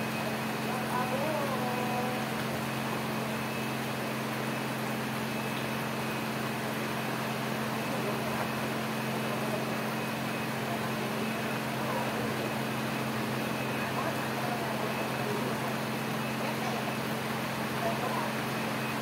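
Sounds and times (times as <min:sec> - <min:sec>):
heavy rain: 0:00.0 - 0:19.0
low mechanical hum: 0:00.0 - 0:19.0.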